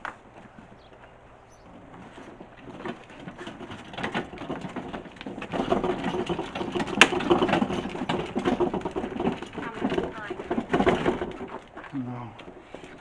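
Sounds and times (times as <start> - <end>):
rapid clattering and rattling: 0.0 - 13.0.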